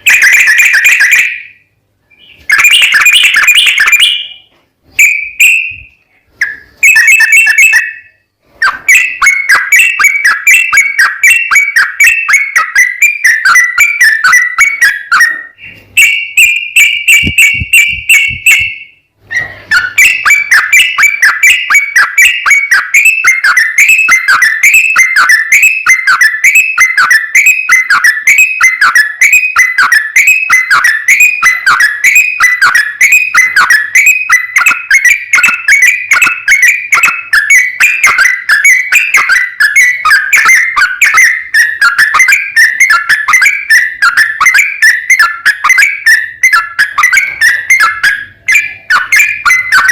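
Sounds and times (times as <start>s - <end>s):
bird whistled descending notes: 2.2s - 49.9s.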